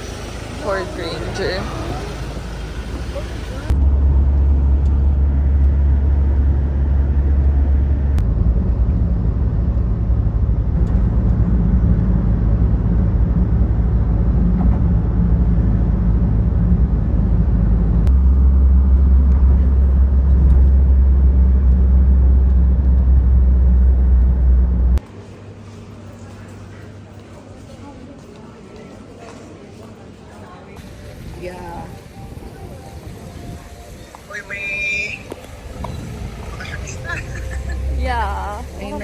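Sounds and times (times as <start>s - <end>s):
road and engine rumble: 0.0s - 29.0s, 30.6s - 39.0s.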